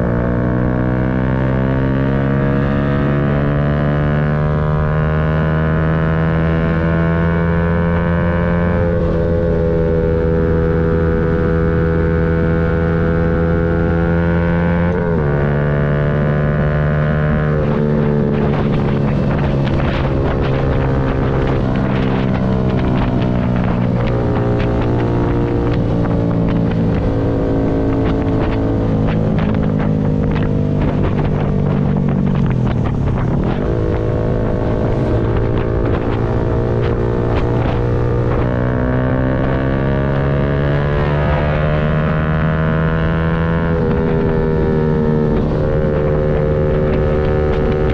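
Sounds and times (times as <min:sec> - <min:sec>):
motorcycle engine running: 0:00.0 - 0:47.9
wind on microphone: 0:00.0 - 0:47.9.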